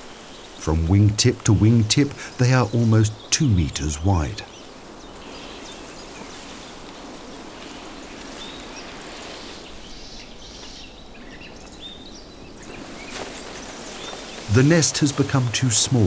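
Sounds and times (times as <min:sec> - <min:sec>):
outdoor ambient hiss: 0:00.0 - 0:16.0.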